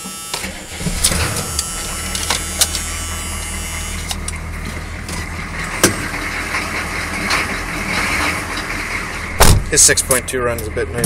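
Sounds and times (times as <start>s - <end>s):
diesel pickup engine idling: 0.0s - 11.0s.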